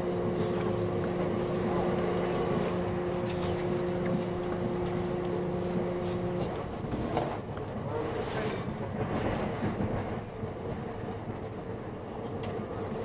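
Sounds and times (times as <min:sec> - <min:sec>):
multi-tone hum: 0:00.0 - 0:13.0
train wheels rumbling on rails: 0:00.0 - 0:13.0.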